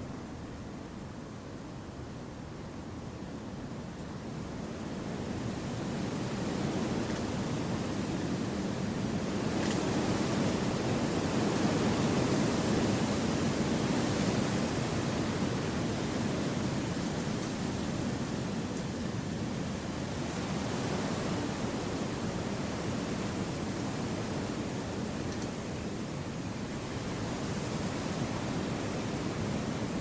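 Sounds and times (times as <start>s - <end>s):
wind rushing through trees: 0.0s - 30.0s.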